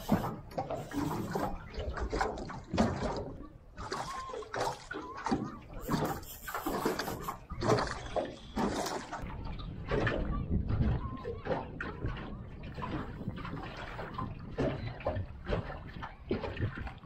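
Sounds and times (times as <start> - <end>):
water sloshing against boat hull: 0.0 - 17.0.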